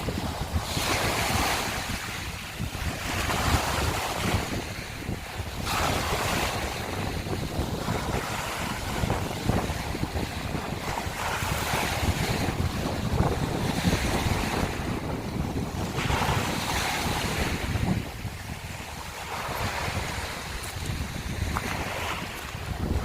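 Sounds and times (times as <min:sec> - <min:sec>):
waves washing over shells: 0:00.0 - 0:23.0
wind rumbling on microphone: 0:00.0 - 0:23.0.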